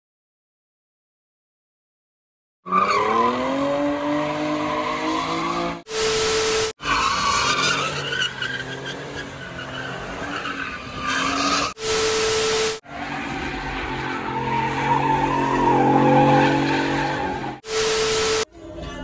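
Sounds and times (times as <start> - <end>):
tyres spinning and skidding: 2.7 - 18.4
car engines revving high: 2.7 - 18.5.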